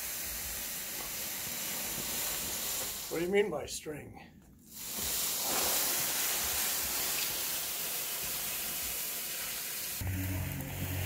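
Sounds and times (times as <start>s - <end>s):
rustle of leaves dragged through brush: 0.0s - 3.2s, 4.7s - 11.0s.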